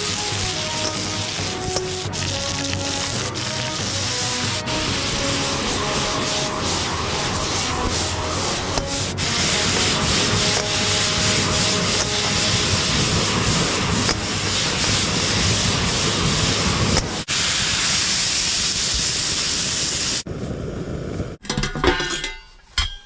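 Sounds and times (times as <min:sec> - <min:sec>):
loud steady hiss: 0:00.0 - 0:20.5.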